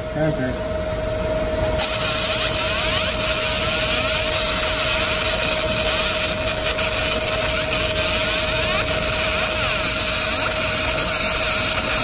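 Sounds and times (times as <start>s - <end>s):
machine hum: 0.0s - 12.0s
laser firing high hiss: 1.8s - 12.0s.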